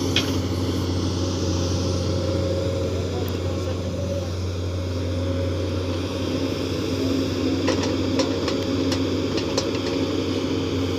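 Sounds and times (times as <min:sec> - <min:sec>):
excavator diesel engine running: 0:00.0 - 0:10.9.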